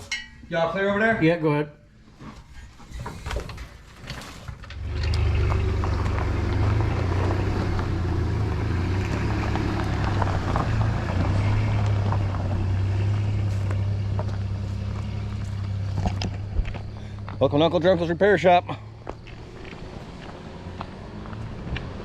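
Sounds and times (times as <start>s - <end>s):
car engine starting and running: 3.0s - 22.0s.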